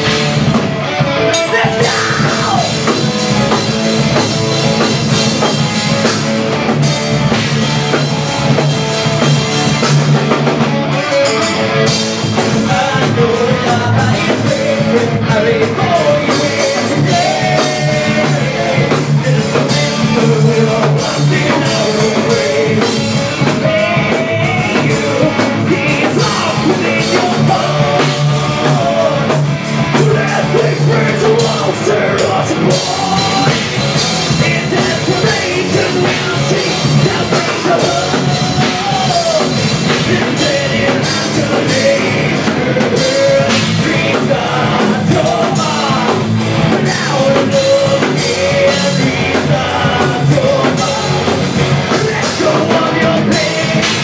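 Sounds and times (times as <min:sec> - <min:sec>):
bass guitar: 0:00.0 - 0:54.0
distorted electric guitars: 0:00.0 - 0:54.0
drum kit: 0:00.0 - 0:54.0
person singing: 0:01.2 - 0:03.1, 0:10.9 - 0:54.0.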